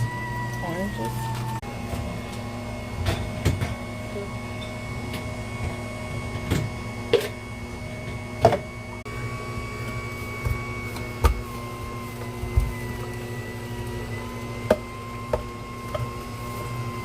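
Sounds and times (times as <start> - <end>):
electric juicer motor humming: 0.0 - 17.0.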